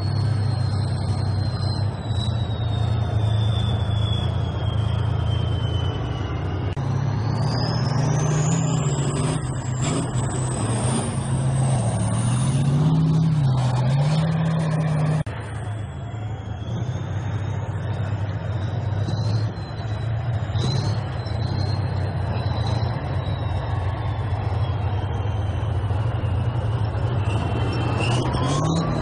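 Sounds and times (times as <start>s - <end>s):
tank engines running: 0.0s - 29.0s.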